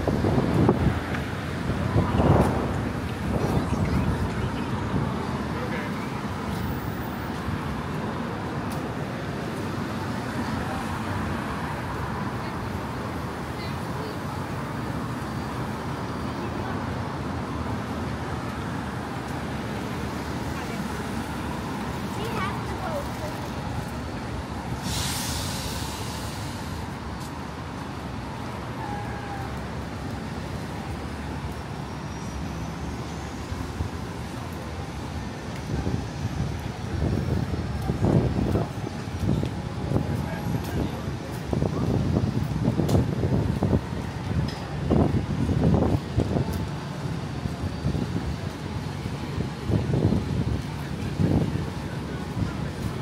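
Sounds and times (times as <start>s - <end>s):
cars passing by: 0.0s - 53.0s
city street traffic: 0.0s - 53.0s.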